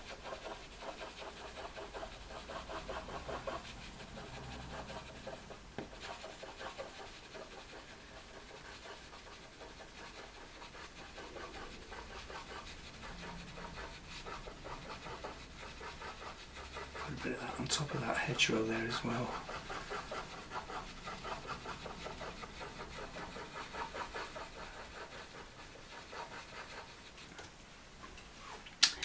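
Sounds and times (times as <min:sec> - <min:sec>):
pencil scratching on paper: 0:00.0 - 0:27.5.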